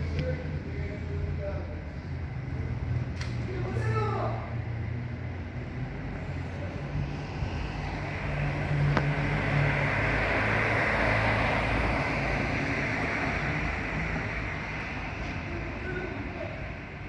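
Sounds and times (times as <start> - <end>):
passing vehicle engine and tyres: 0.0 - 17.0.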